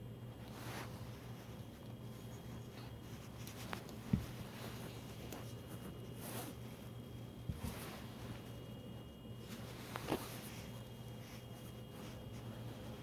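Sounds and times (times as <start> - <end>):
steady low hum: 0.0 - 13.0
scraping and rustling: 0.4 - 8.6, 9.4 - 13.0.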